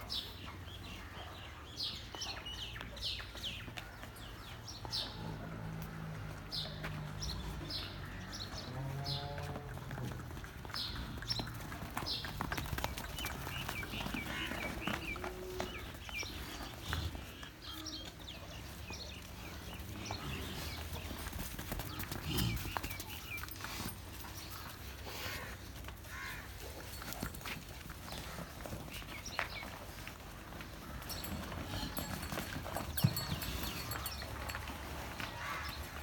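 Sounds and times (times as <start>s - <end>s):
hooves clopping on hard ground: 1.9s - 36.0s.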